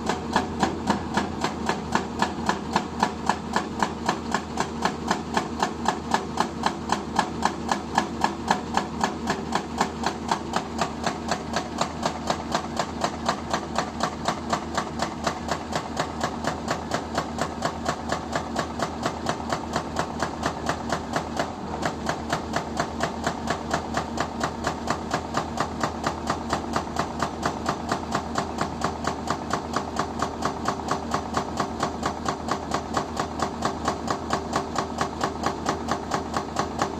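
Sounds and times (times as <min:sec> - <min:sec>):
excavator engine running: 0:00.0 - 0:36.9
hydraulic breaker hammering: 0:00.0 - 0:36.9.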